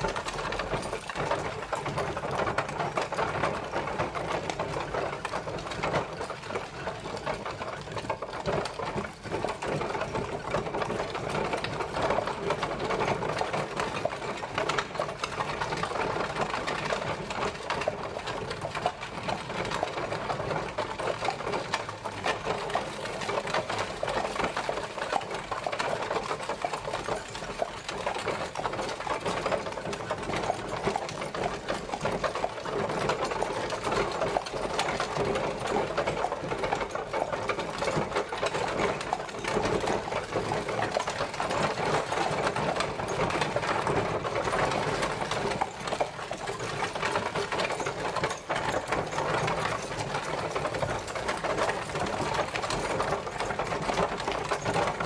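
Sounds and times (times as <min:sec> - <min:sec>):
horse-drawn carriage rattling: 0:00.0 - 0:55.0.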